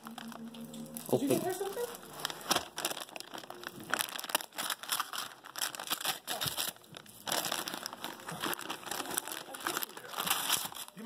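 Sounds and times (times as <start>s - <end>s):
foil wrapping paper crinkling: 0.0s - 11.0s
paper tearing: 1.1s - 11.0s.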